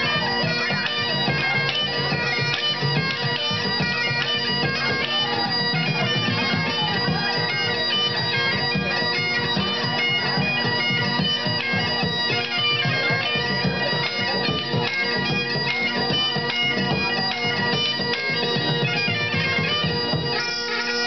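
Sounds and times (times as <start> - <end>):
bagpipe drone: 0.0 - 21.0
bagpipe melody: 0.0 - 21.0.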